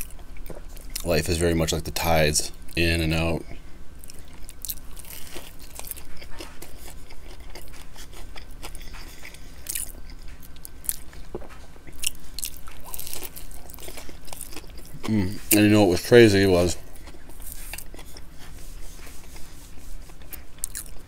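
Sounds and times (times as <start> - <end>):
crispy chicken crunching: 4.0 - 21.0.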